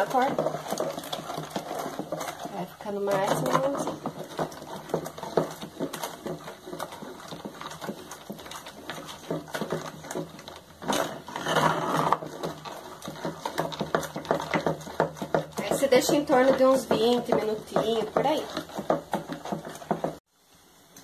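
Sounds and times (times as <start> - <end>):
wooden spoon scraping a saucepan: 0.0 - 20.3
thick mash bubbling: 0.0 - 21.0.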